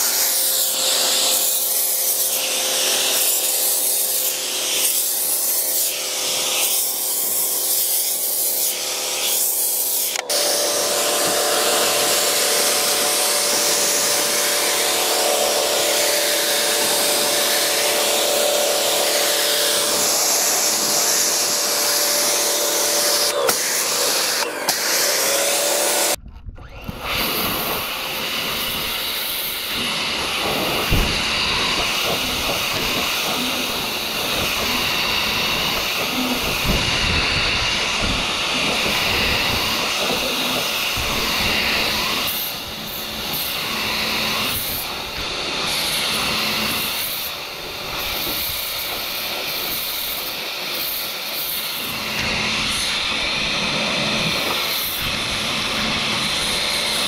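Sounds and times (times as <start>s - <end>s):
pressure washer hum: 0.0s - 57.0s.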